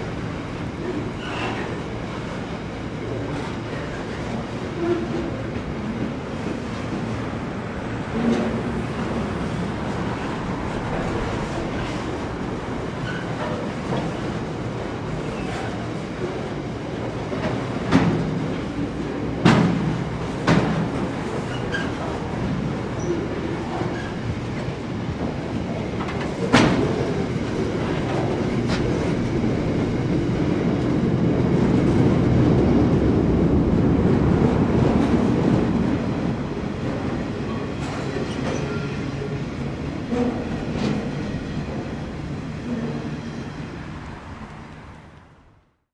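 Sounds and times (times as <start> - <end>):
train low rumble: 0.0 - 45.9.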